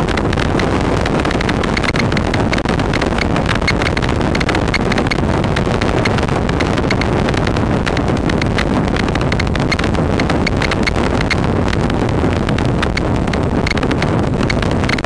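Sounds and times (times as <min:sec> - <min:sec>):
motorcycle engine running: 0:00.0 - 0:15.0
rapid uneven clicking: 0:00.0 - 0:15.0
wind rushing over microphone: 0:00.0 - 0:15.0.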